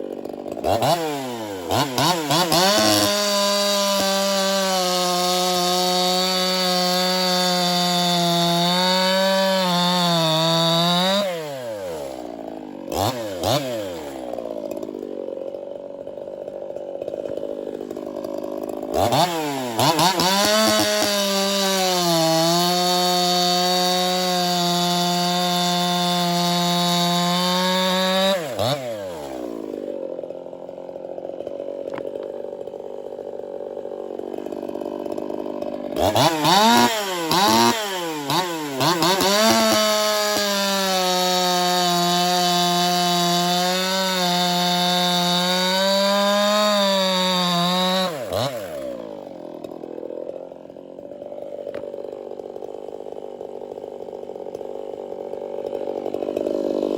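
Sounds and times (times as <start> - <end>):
chainsaw idling and revving: 0.0 - 56.9.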